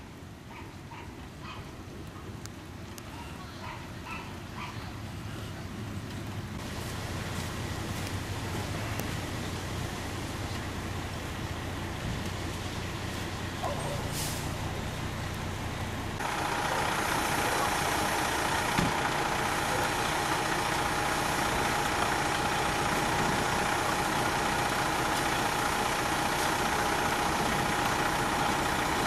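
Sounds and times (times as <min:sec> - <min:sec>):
fire engine idling: 0:04.4 - 0:29.0.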